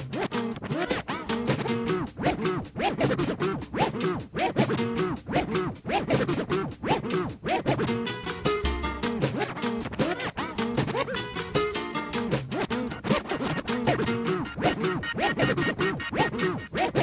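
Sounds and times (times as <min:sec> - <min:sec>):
steady music beat: 0:00.0 - 0:17.0
turntable scratching: 0:00.0 - 0:17.0.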